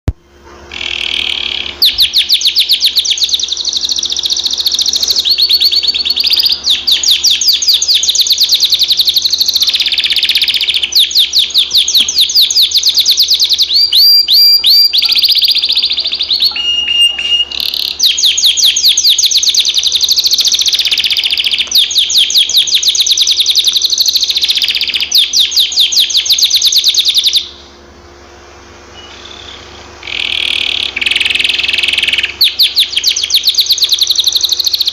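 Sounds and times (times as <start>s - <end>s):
canary singing trills: 0.7s - 28.2s, 28.8s - 34.9s.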